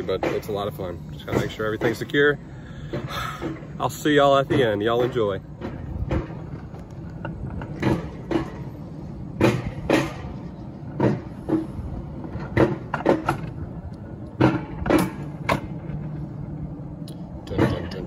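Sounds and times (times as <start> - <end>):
cart rolling on steel rails: 0.0 - 18.0
wheels clacking over track joints: 0.0 - 18.0.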